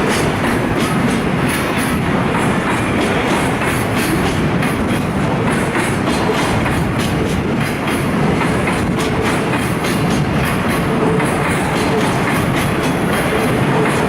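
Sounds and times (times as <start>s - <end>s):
freight train rumbling past: 0.0s - 14.0s
wheels clacking over rail joints: 0.0s - 14.0s.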